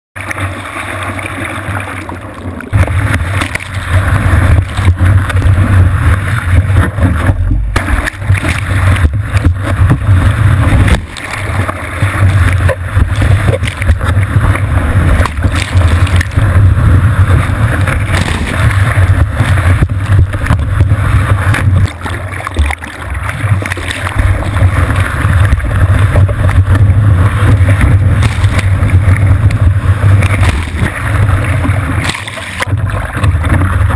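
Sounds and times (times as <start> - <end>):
water rushing and splashing: 0.2 - 33.9.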